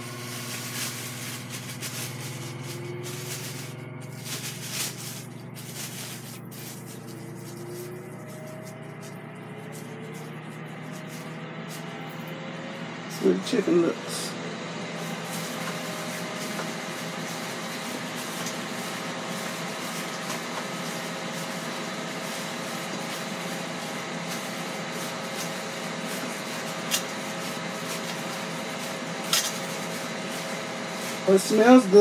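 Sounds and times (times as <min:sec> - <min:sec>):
grill fan humming: 0:00.0 - 0:32.0.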